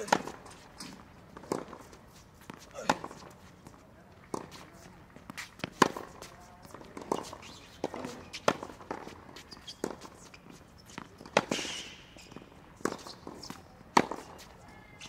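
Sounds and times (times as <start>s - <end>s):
shoe scuffs on court: 0.0s - 15.0s.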